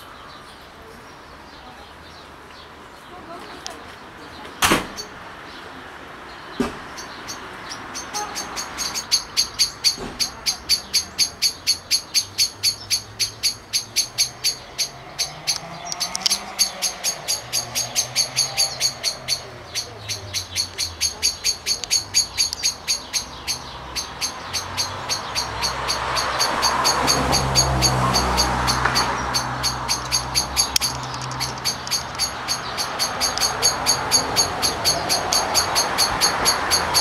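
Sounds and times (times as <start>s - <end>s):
bird high chirps: 6.9s - 37.0s.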